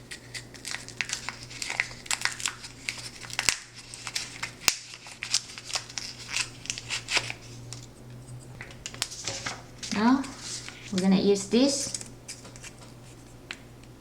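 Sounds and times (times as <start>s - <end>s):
tape and paper crackling: 0.0s - 13.9s.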